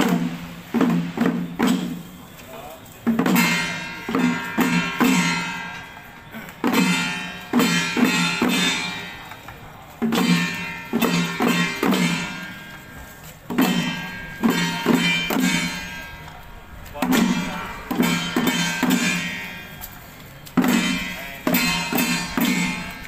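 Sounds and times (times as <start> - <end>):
drum strokes: 0.0 - 23.0
ringing metal strokes: 2.9 - 23.0.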